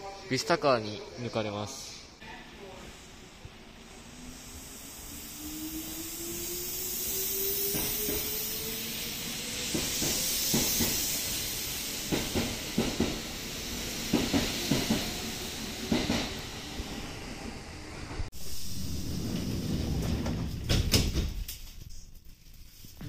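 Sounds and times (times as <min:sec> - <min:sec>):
hiss of wheels on rail: 0:01.8 - 0:20.6.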